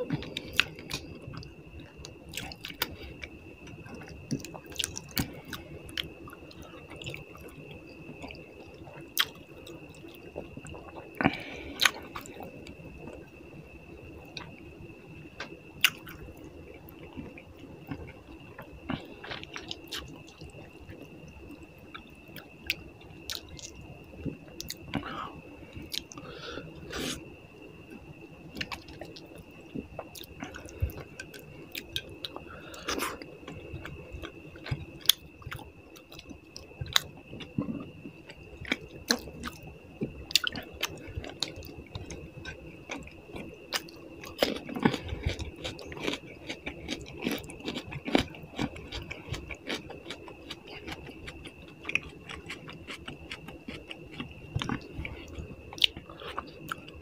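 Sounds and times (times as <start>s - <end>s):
chewing and mouth clicks: 0.0s - 13.2s, 15.4s - 16.2s, 16.9s - 21.0s, 21.9s - 25.1s, 28.6s - 57.0s
faint high whine: 0.0s - 57.0s.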